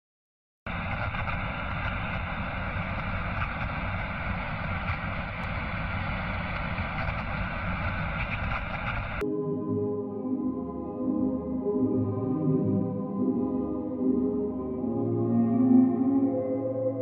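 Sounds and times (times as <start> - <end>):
dense rumbling drone: 0.7 - 17.0.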